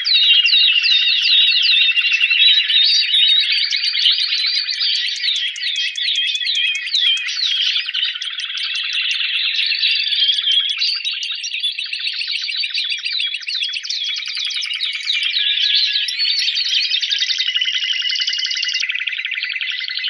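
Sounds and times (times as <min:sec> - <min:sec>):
canary singing trills and whistles: 0:00.0 - 0:20.0.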